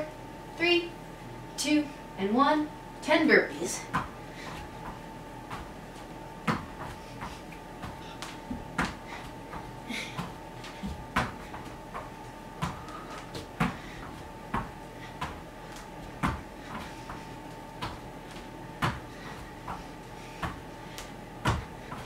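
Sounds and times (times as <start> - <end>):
hands and feet thudding on mat: 3.8 - 22.0.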